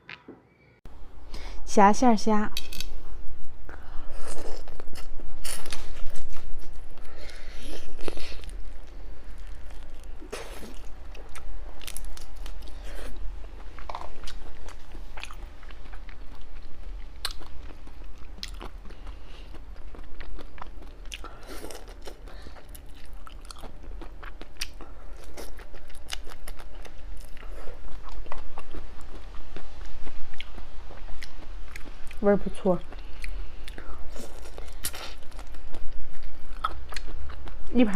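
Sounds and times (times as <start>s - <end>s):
steady low hum: 0.8s - 37.9s
person chewing and biting food: 4.2s - 32.2s, 32.9s - 37.6s.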